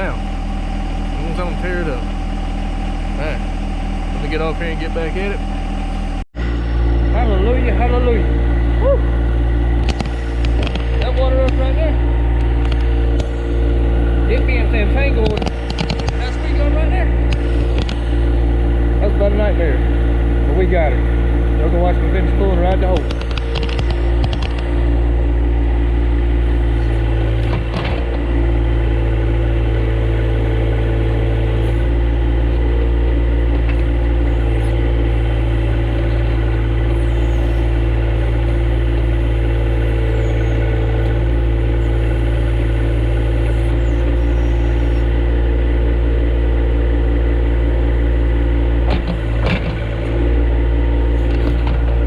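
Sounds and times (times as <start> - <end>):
tractor engine under load: 0.0 - 52.0.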